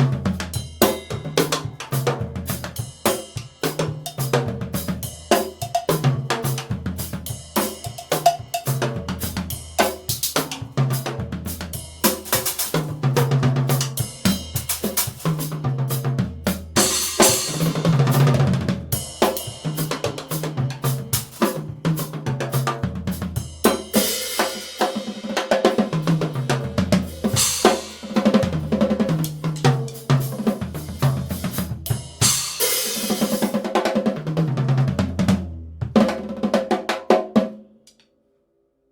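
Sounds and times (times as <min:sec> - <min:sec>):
bass drum: 0:00.0 - 0:24.0, 0:25.9 - 0:32.8, 0:34.2 - 0:36.4
tom drum fills: 0:00.0 - 0:37.4
snare drum: 0:00.0 - 0:37.6.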